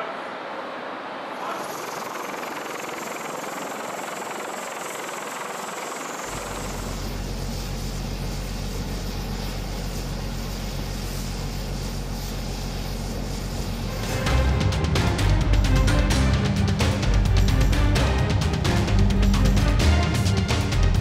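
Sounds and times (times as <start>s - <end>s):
aircraft engine noise: 1.0s - 21.0s
deep even hum: 1.6s - 21.0s.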